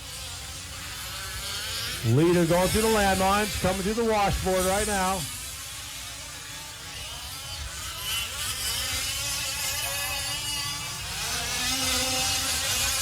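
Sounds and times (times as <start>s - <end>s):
small two-stroke engines buzzing: 0.0s - 13.0s.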